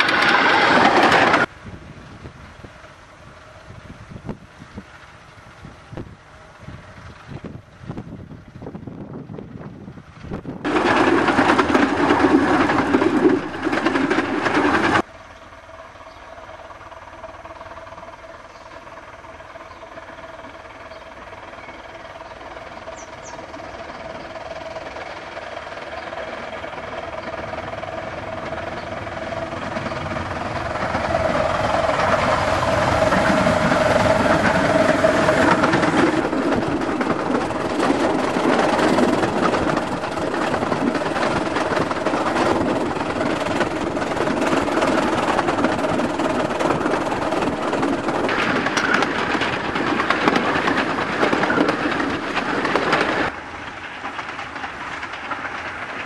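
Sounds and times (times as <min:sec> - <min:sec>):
wheels clicking over rail joints: 0:00.0 - 0:01.6, 0:10.2 - 0:56.0
steam locomotive engine working: 0:00.0 - 0:56.0.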